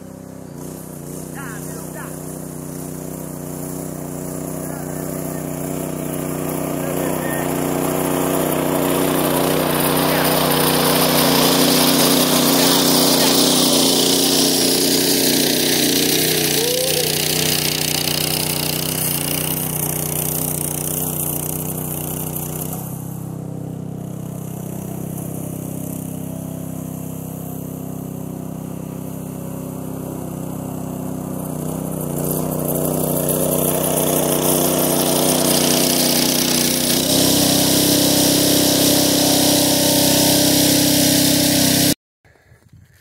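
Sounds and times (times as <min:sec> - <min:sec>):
garden tiller engine running: 0:00.0 - 0:42.0.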